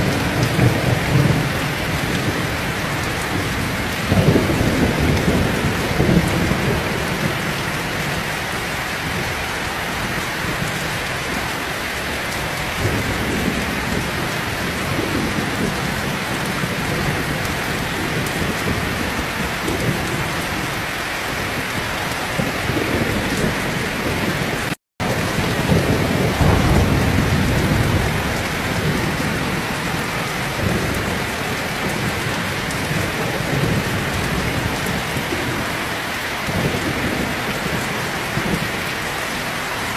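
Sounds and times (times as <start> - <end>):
low thunder rumbling: 0.0 - 35.8, 36.4 - 39.7
heavy rain pouring: 0.0 - 39.9.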